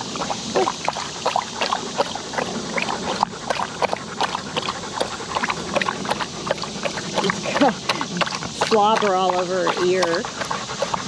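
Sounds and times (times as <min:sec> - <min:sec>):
dog lapping water: 0:00.0 - 0:11.0.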